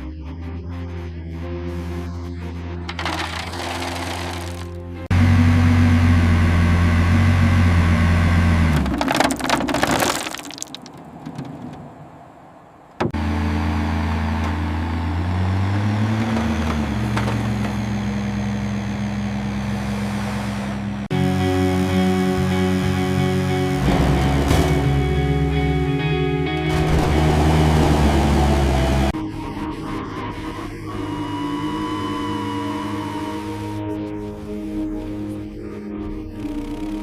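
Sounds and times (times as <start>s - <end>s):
vehicle engine running: 0.3s - 9.0s, 13.1s - 35.3s
second engine running: 0.4s - 8.9s, 13.1s - 34.8s.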